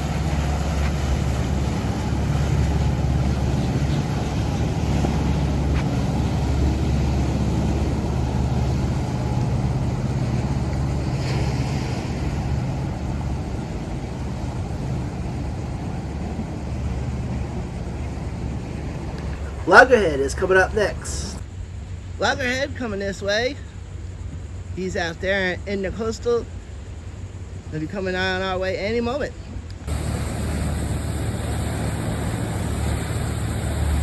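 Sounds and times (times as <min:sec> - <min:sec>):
boat engines droning: 0:00.0 - 0:34.0.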